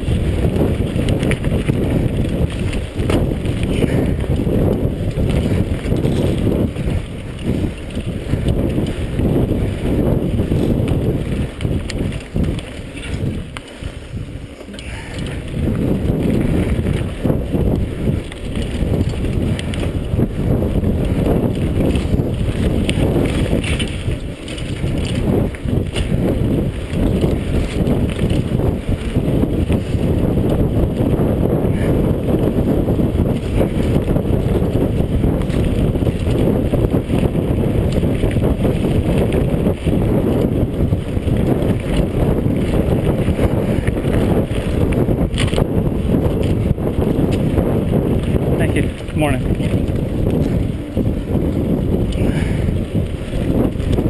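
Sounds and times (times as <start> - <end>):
bike rattling on bumpy trail: 0.0 - 54.0
wind buffeting microphone: 0.0 - 54.0.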